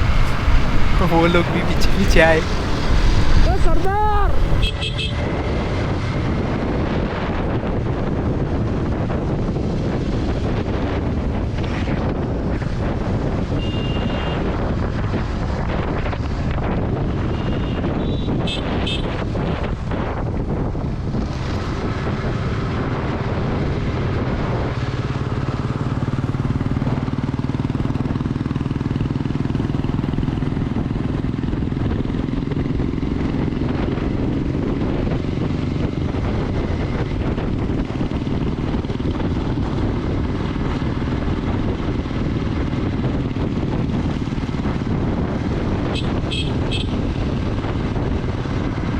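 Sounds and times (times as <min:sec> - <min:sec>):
motorcycle engine running: 0:00.0 - 0:13.6, 0:21.0 - 0:48.9
wind on microphone: 0:00.0 - 0:48.9.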